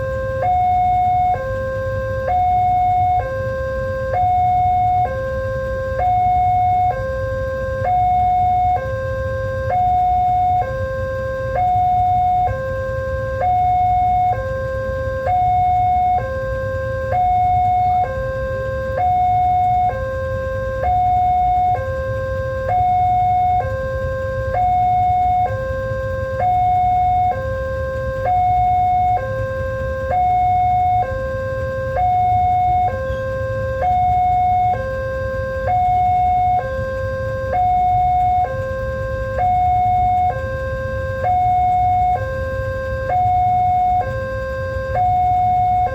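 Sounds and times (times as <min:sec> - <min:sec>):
two-tone electronic warning alarm: 0:00.0 - 0:45.9.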